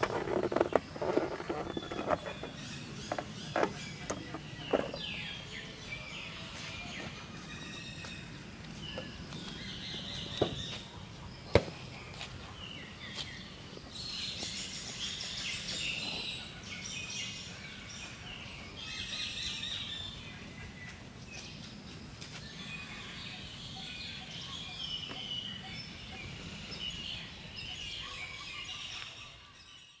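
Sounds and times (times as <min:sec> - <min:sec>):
birds chirping: 0:00.0 - 0:30.0
low background noise: 0:00.0 - 0:30.0.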